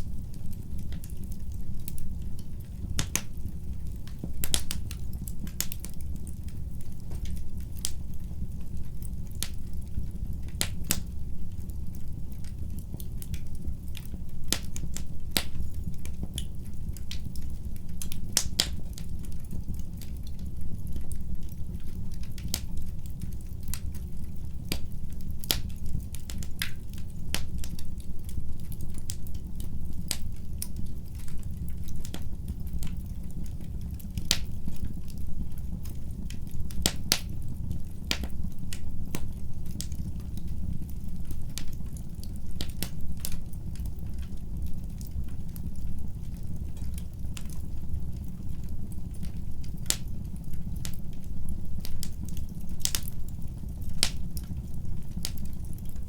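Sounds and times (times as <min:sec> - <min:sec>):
fireplace fire crackling: 0:00.0 - 0:56.0.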